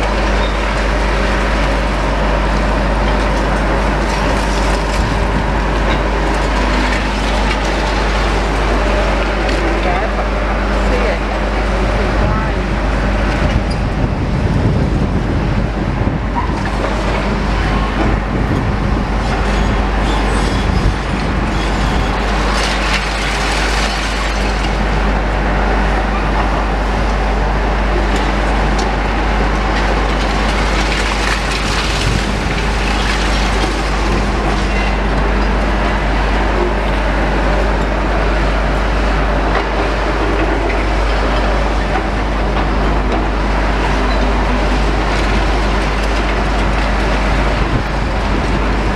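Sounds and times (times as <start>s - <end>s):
diesel engines rumbling: 0.0s - 48.9s
harsh machinery noise: 0.0s - 48.9s.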